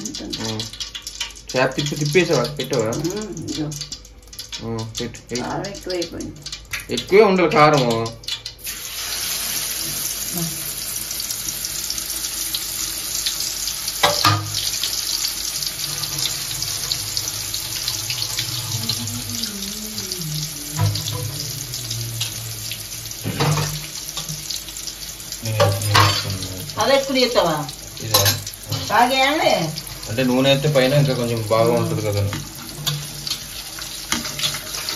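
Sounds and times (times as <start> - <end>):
fish sizzling in hot oil: 0.0 - 34.9.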